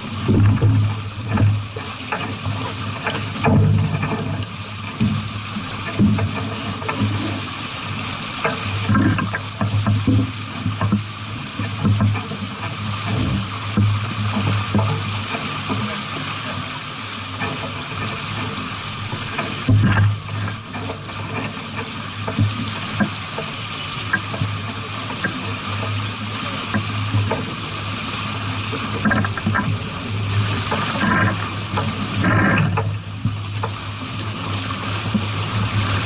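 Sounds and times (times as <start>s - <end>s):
water rushing along boat hull: 0.0s - 36.0s.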